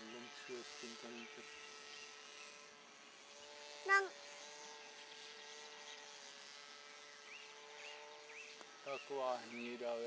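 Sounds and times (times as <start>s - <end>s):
model airplane engine whine: 0.0s - 10.0s.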